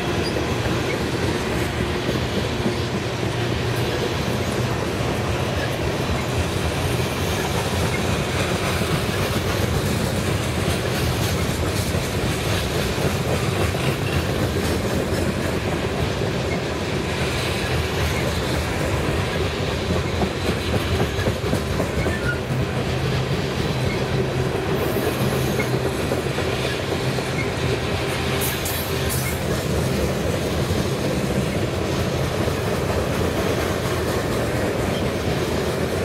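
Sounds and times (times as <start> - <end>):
freight train cars rolling: 0.0 - 36.0
wheels clicking over rails: 0.0 - 36.0.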